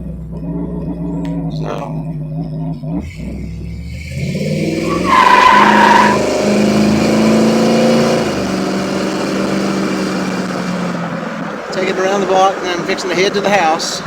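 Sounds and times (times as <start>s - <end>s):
engine pulling away: 0.0s - 14.0s.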